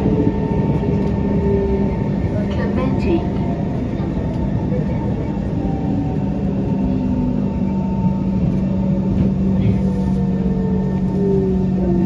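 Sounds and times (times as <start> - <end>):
metro train rumble and hum: 0.0 - 12.0.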